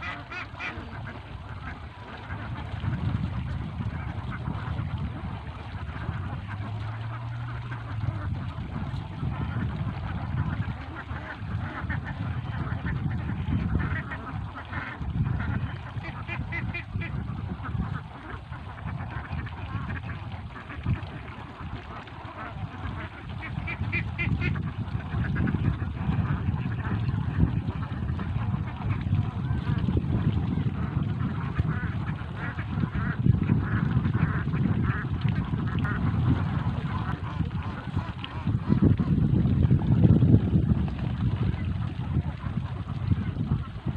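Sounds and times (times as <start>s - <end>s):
ducks quacking: 0.0s - 39.3s, 41.4s - 43.9s
low uneven rumble: 0.0s - 43.9s.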